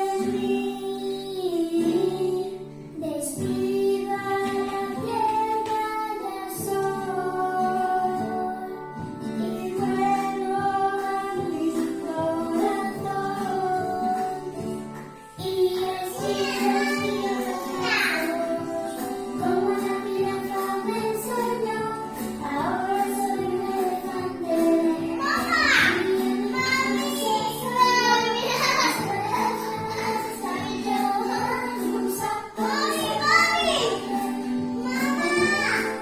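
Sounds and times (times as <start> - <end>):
children's song with instruments: 0.0 - 36.0.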